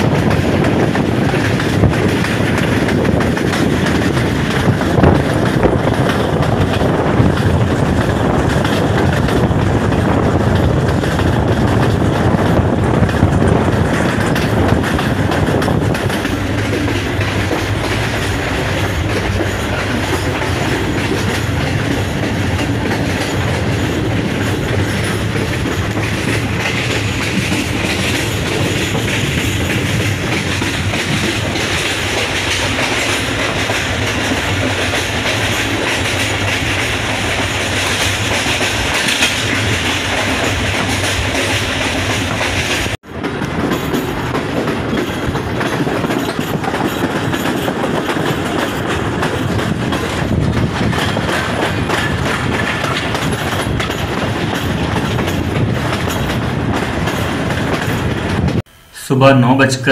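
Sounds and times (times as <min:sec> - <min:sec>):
train wheels on rails: 0:00.0 - 0:59.1.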